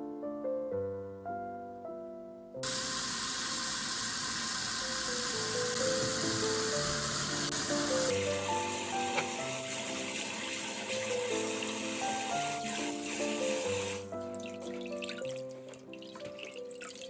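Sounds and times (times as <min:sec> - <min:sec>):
soft piano music: 0:00.0 - 0:17.0
tap water running into bowl: 0:02.6 - 0:17.0.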